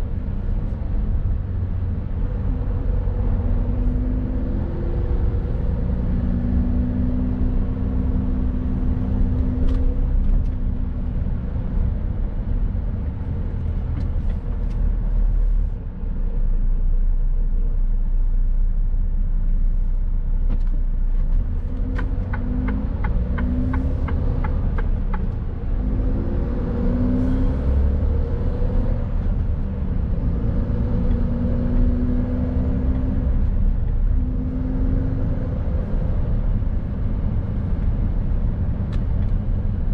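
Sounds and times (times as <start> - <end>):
road noise: 0.0 - 39.9
truck engine rumbling: 0.0 - 39.9.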